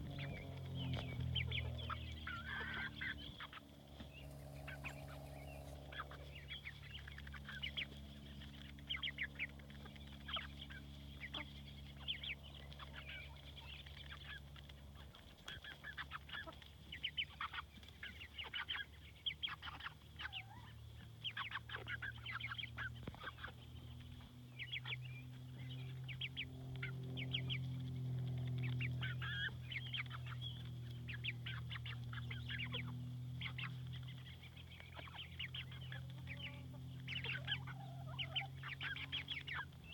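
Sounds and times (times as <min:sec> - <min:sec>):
low steady hum: 0:00.0 - 0:39.9
poultry calling: 0:00.0 - 0:39.9.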